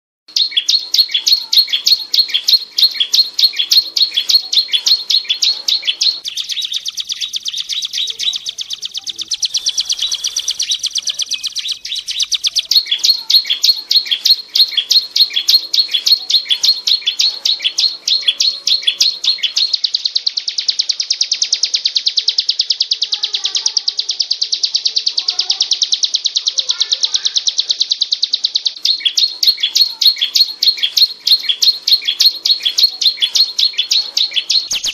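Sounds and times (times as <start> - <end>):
bird buzzy trill: 0.3 - 34.9
bird high chirps: 0.3 - 34.9.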